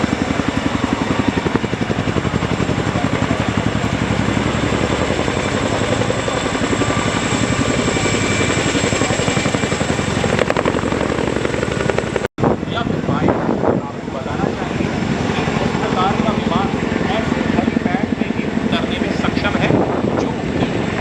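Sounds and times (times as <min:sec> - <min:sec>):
helicopter rotor blades beating: 0:00.0 - 0:21.0
helicopter turbine noise: 0:00.0 - 0:21.0.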